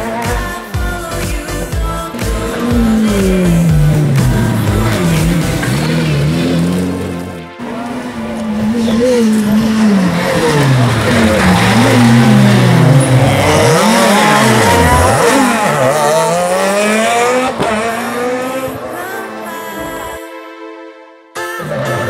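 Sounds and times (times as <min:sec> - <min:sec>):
rally car engine revving: 0:00.0 - 0:01.2, 0:02.0 - 0:19.9.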